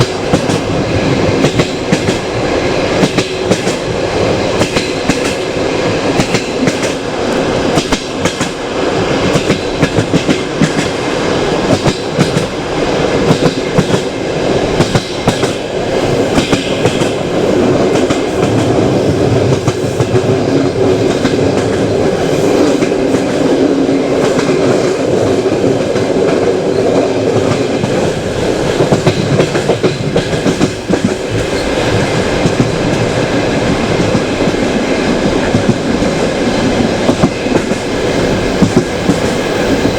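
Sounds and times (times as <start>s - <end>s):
train wheels clattering over rail joints: 0.0s - 18.8s, 19.4s - 39.9s
train rolling rumble: 0.0s - 39.9s.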